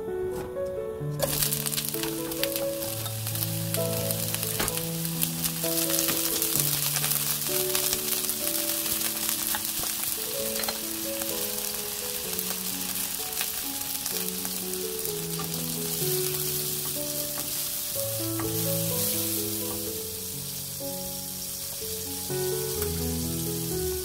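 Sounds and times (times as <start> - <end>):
soft background melody: 0.0 - 24.0
shrimp sizzling in hot oil: 1.2 - 24.0.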